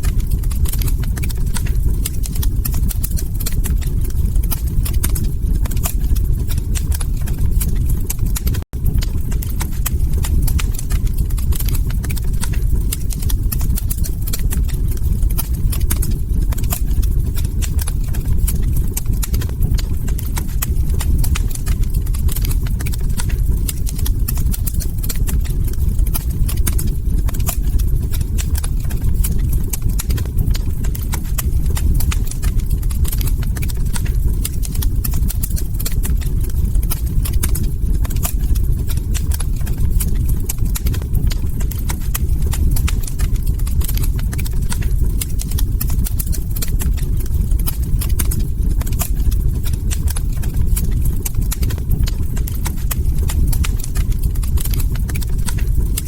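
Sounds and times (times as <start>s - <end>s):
log fire crackling: 0.0s - 56.0s
low rumble: 0.0s - 56.0s.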